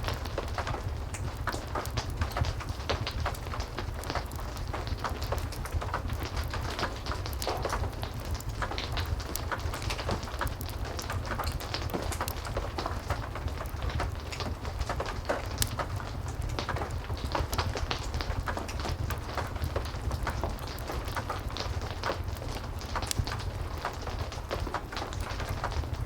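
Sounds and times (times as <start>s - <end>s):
heavy rain falling: 0.0s - 26.0s
wood fire crackling and popping: 0.0s - 26.0s.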